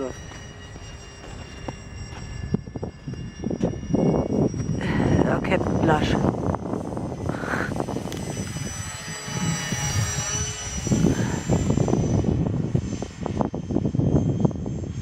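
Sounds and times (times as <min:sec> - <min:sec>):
rc plane motor whining: 0:00.0 - 0:15.0
wind buffeting microphone: 0:00.0 - 0:15.0.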